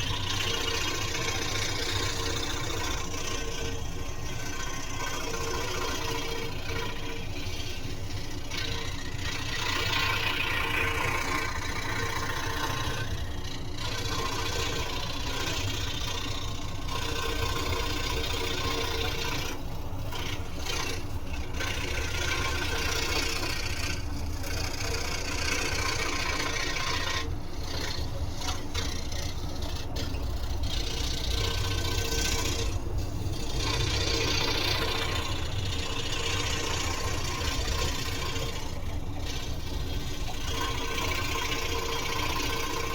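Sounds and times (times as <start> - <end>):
saw blade rasping through wood: 0.0 - 42.9
scroll saw motor hum: 0.0 - 42.9.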